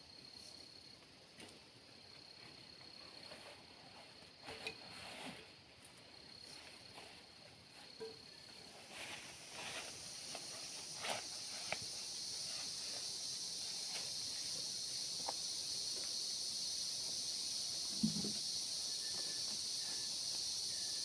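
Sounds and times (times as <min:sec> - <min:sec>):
insects trilling: 0:01.8 - 0:21.0.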